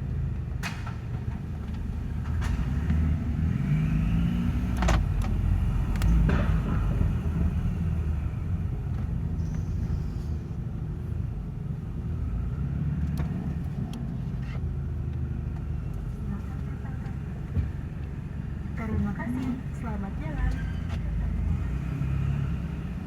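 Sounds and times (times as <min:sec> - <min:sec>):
car engine drone while driving: 0:00.0 - 0:23.0.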